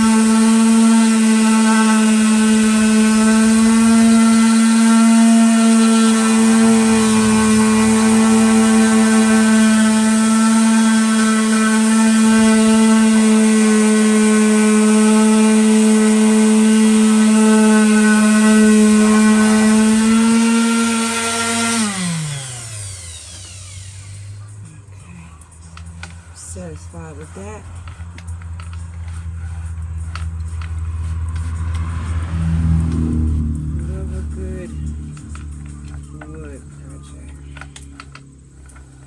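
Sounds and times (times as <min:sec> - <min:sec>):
electric sander running: 0:00.0 - 0:39.0.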